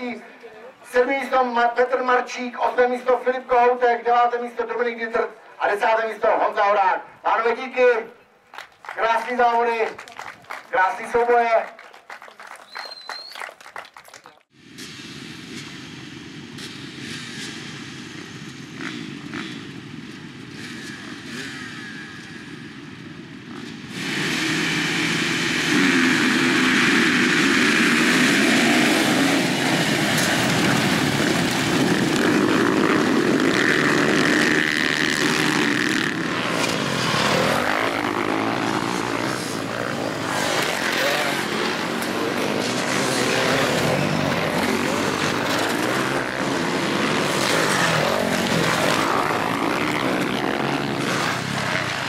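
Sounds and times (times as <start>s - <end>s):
motocross bike engines racing: 0.0s - 8.2s, 14.6s - 52.0s.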